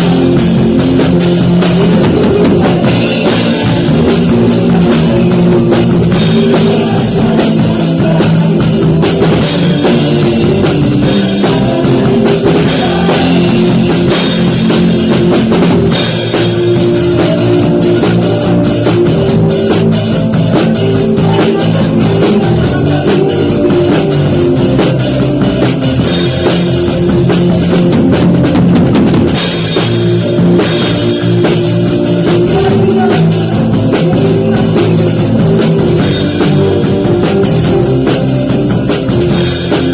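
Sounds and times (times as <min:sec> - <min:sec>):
bass guitar: 0:00.0 - 0:39.9
drum kit: 0:00.0 - 0:39.9
electric guitar: 0:00.0 - 0:39.9
keyboard: 0:00.0 - 0:39.9.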